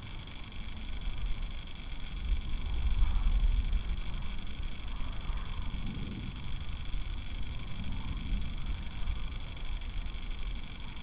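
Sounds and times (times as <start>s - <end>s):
constant hiss: 0.0s - 11.0s
low rumble: 0.0s - 11.0s.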